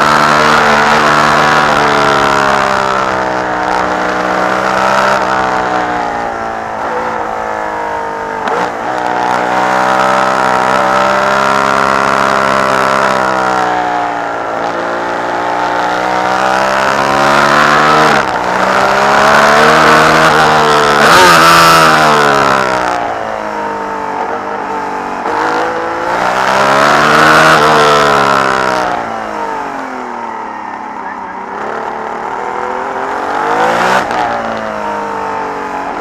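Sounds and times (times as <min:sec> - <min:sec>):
racing engine at high revs: 0:00.0 - 0:36.0.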